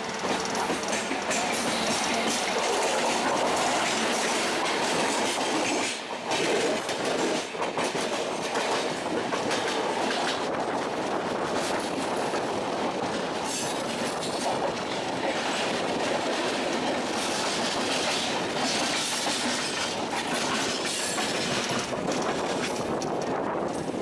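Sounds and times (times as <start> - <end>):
electric train rumbling on track: 0.0 - 24.0.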